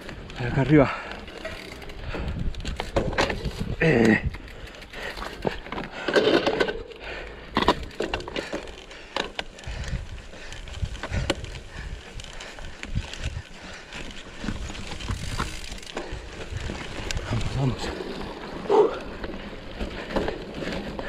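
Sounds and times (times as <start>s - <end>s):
bike cracks clicks and rattles: 0.0s - 21.0s.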